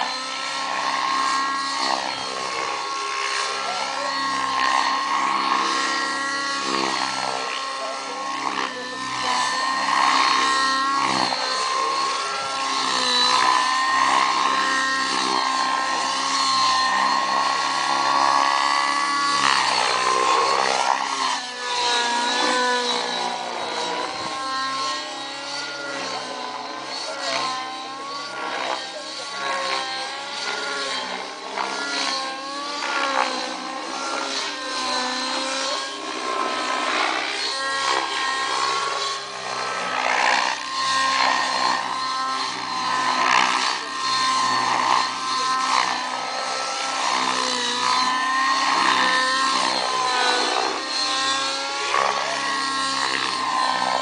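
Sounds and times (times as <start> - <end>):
model helicopter engine and rotor whine: 0.0 - 54.0.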